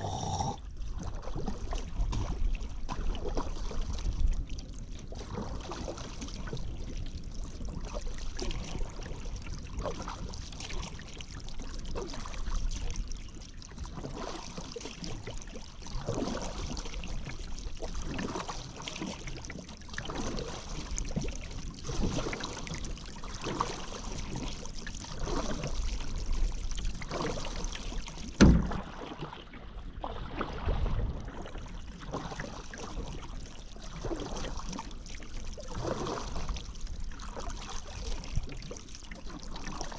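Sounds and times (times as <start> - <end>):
paddle strokes in water: 0.0 - 39.9.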